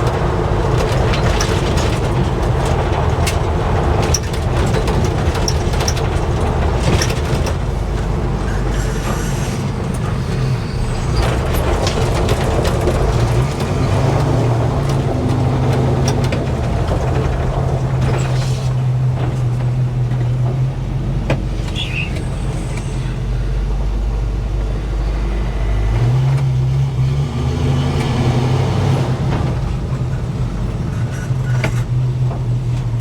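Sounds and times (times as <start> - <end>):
pickup truck engine and exhaust: 0.0 - 33.0.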